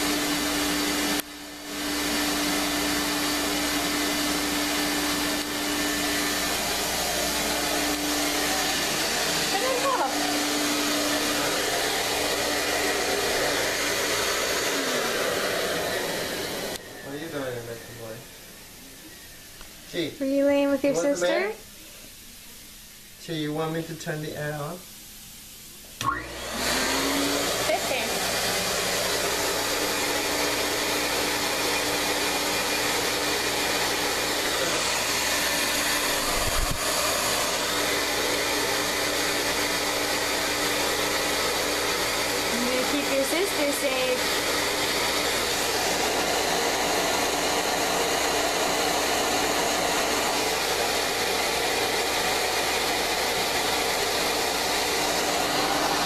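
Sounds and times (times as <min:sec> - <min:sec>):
appliance motor and airflow rush: 0:00.0 - 0:21.6, 0:26.0 - 0:56.0
blow dryer running: 0:00.0 - 0:21.6, 0:25.9 - 0:56.0.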